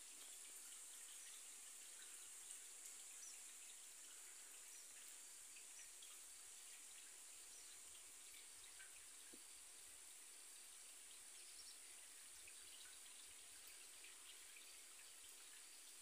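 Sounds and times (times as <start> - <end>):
small ticks: 0.0 - 16.0
steady high hiss: 0.0 - 16.0.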